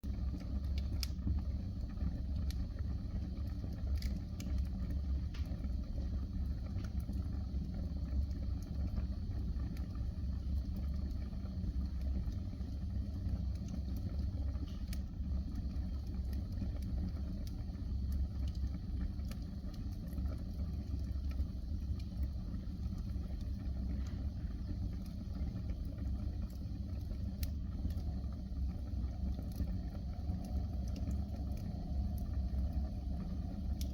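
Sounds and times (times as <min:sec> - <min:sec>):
fire crackling: 0:00.0 - 0:33.9
wood fire rumbling: 0:00.0 - 0:33.9.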